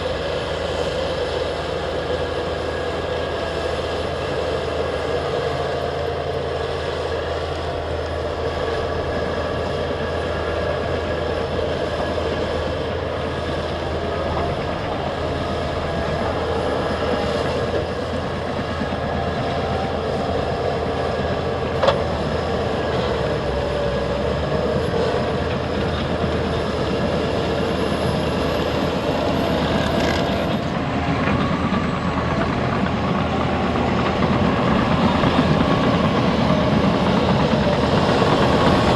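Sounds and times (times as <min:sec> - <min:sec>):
bulldozer diesel engines whining: 0:00.0 - 0:38.9
steel tracks clattering: 0:00.0 - 0:38.9.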